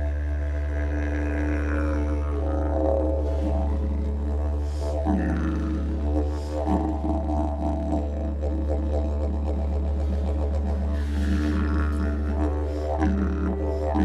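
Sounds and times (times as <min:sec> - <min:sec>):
didgeridoo drone: 0:00.0 - 0:14.0.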